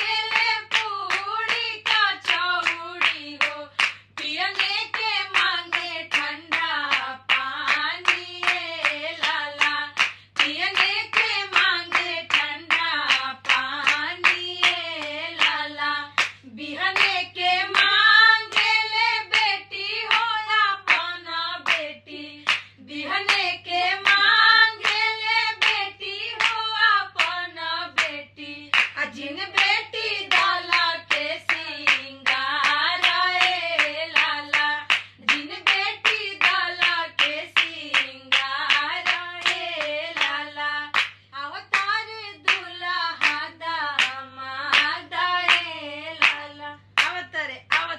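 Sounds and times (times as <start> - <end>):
hand claps: 0.0 - 47.9
women singing together: 0.0 - 47.9.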